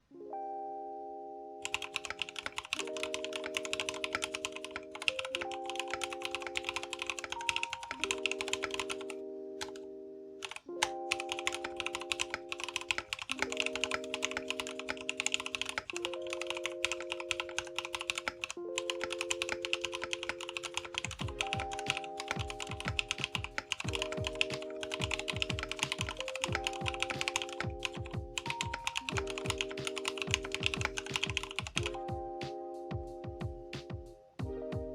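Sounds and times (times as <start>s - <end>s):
mechanical keyboard typing: 1.6s - 32.0s.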